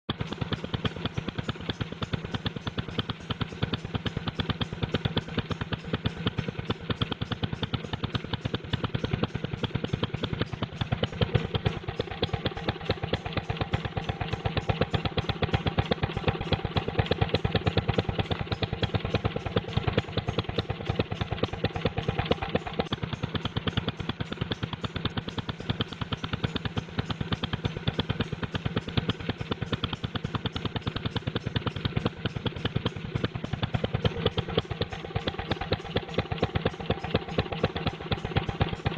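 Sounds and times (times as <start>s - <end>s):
old engine sputtering: 0.1s - 38.9s.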